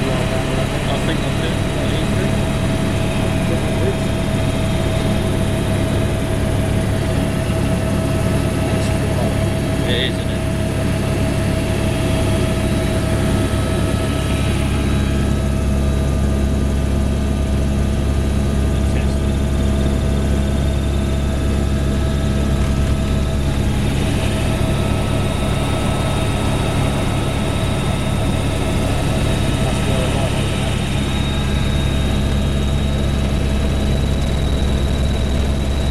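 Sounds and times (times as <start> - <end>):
helicopter engine and rotor: 0.0 - 35.9.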